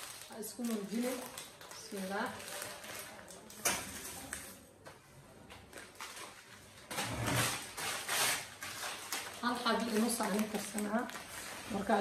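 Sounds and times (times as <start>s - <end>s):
plastic packet rustling: 0.0s - 4.7s, 5.6s - 12.0s.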